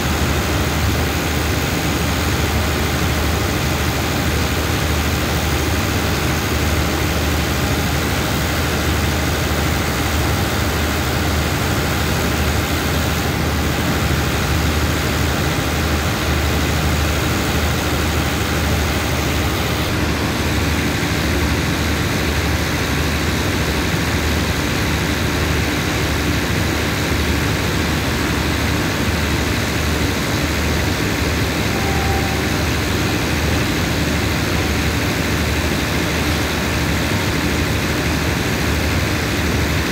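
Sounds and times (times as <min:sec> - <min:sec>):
diesel train engines idling: 0:00.0 - 0:39.9.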